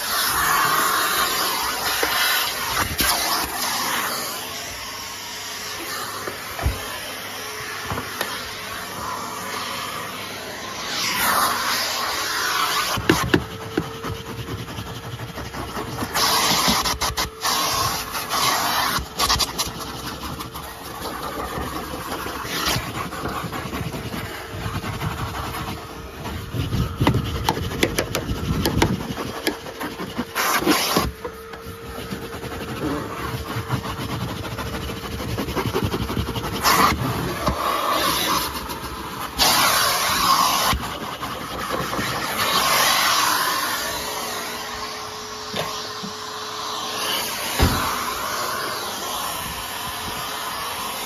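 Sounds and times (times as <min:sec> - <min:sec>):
nozzle scraping surfaces: 0:00.0 - 0:50.3
vacuum cleaner motor hum: 0:00.0 - 0:51.0.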